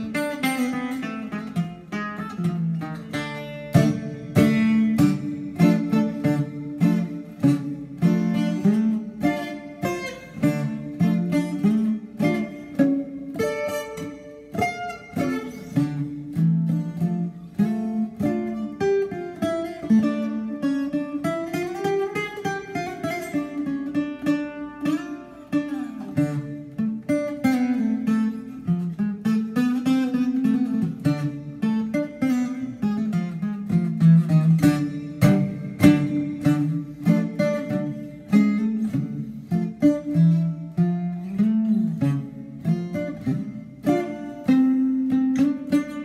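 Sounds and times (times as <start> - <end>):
bouzouki melody: 0.0 - 46.0.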